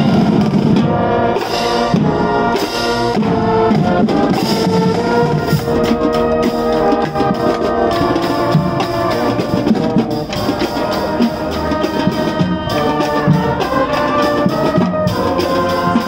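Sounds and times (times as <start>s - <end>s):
brass holding chords: 0.0s - 16.0s
marching drums beat: 0.0s - 16.0s.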